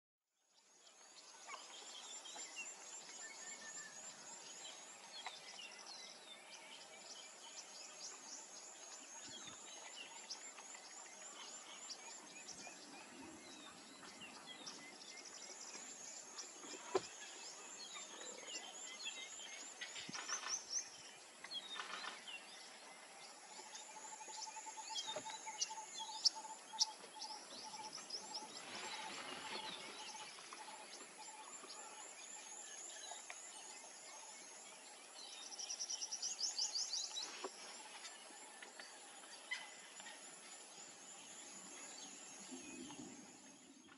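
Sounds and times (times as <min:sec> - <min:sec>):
birds chirping and trilling: 0:00.4 - 0:43.9.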